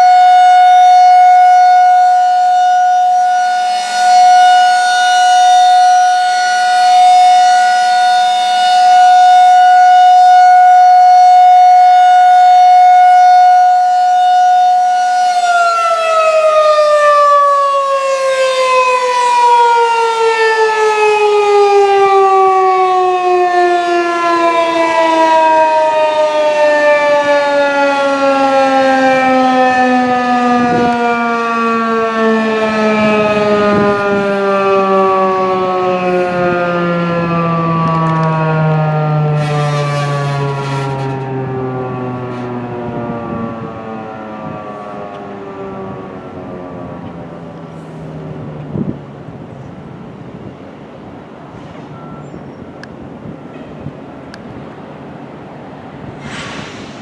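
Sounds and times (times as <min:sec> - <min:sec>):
outdoor warning siren: 0:00.0 - 0:57.0.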